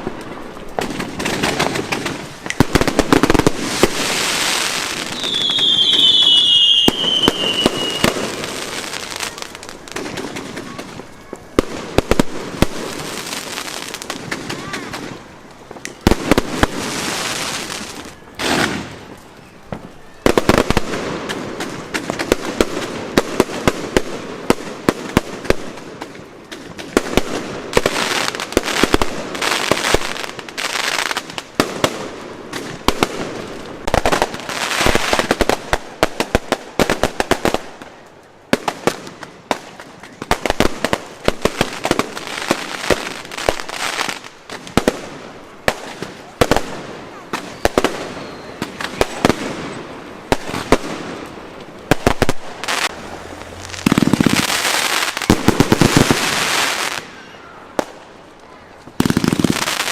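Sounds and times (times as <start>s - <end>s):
fireworks bangs and cracks: 0.0s - 58.2s, 58.8s - 59.9s
fireworks crackling: 0.0s - 59.9s.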